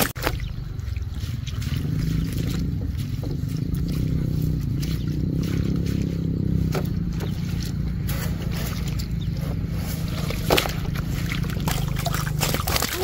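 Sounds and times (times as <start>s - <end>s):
water sloshing and splashing: 0.0s - 13.0s
small motor droning: 1.3s - 12.9s.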